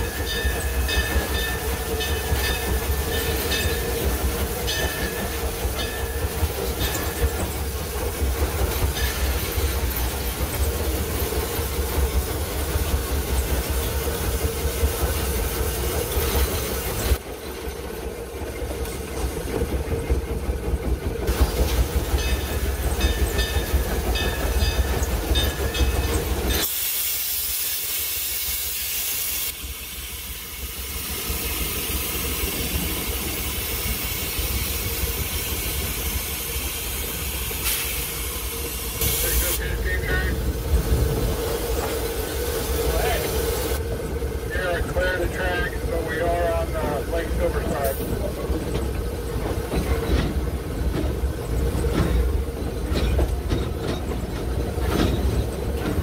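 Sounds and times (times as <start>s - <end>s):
steam hissing: 0.0s - 17.2s, 21.2s - 56.0s
steam locomotive rumble and clatter: 0.0s - 56.0s.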